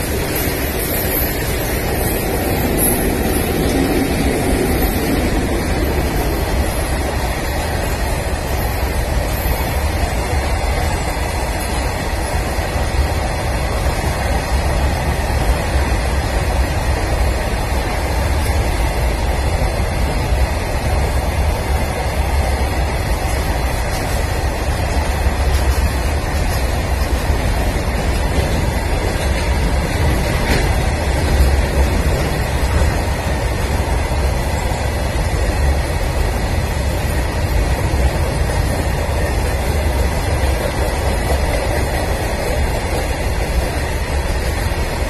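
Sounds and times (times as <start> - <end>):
freight train rumbling on rails: 0.0 - 45.0.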